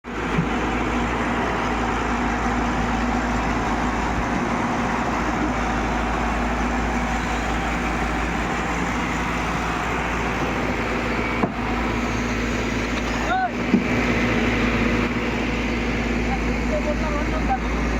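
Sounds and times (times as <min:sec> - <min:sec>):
heavy diesel engine running: 0:00.0 - 0:17.9.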